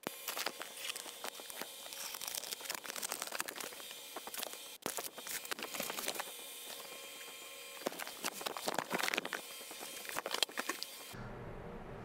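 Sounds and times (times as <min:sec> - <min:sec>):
cardboard and packing material rustling: 0:00.1 - 0:11.0.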